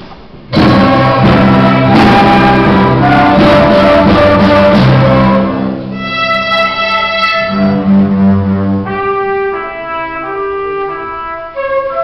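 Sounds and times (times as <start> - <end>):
orchestra strings and woodwinds playing: 0.5 - 12.0.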